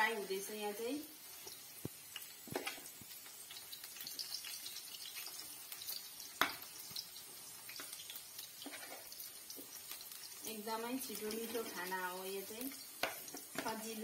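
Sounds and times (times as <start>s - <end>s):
okra sizzling in hot oil: 0.0s - 14.0s.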